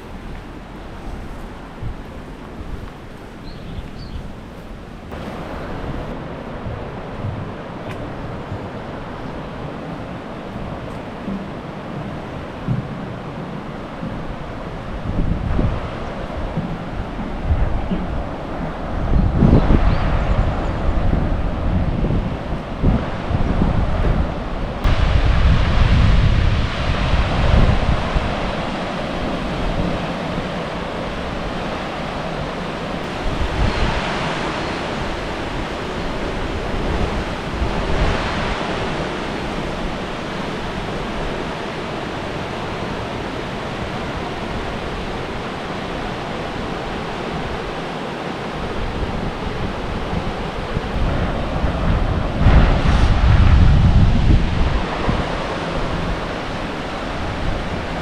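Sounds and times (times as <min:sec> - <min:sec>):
river water rushing: 0:00.0 - 0:58.0
wind buffeting microphone: 0:00.0 - 0:58.0.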